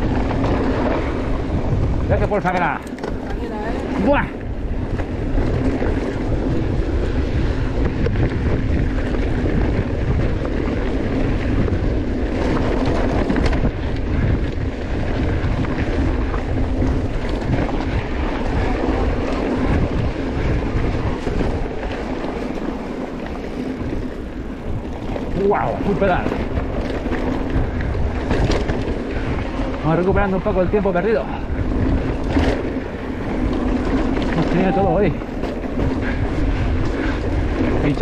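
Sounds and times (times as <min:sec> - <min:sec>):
bike tyres rumbling on trail: 0:00.0 - 0:38.0
wind buffeting microphone: 0:00.0 - 0:38.0.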